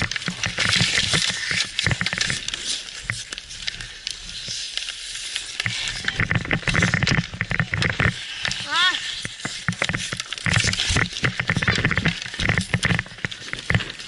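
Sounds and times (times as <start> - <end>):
hockey sticks and puck clacking: 0.0 - 14.0
skate blades scraping on ice: 0.0 - 14.0.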